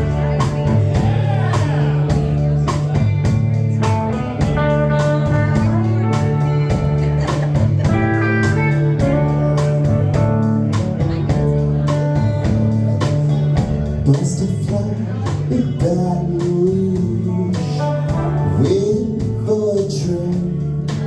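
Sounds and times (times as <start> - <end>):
guitar and bass chords: 0.0 - 21.0
steady drum beat: 0.0 - 21.0.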